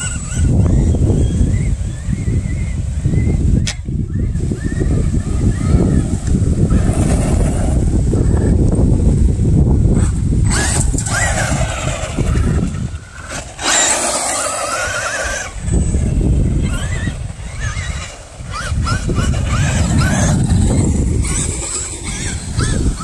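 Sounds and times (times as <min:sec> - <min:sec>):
motor chirps: 0:00.0 - 0:07.4, 0:10.5 - 0:23.0
electric motor whining: 0:00.0 - 0:09.2, 0:09.9 - 0:23.0.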